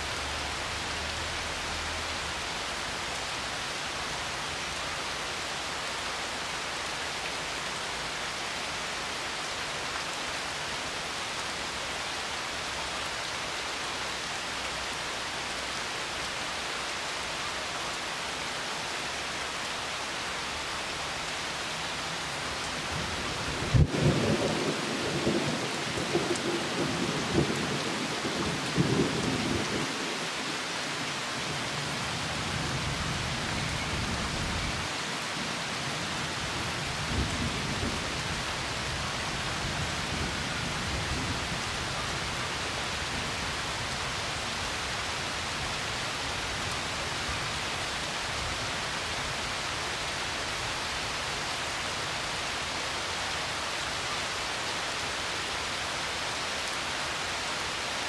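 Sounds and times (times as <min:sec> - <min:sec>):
rain falling on river and leaves: 0:00.0 - 0:58.0.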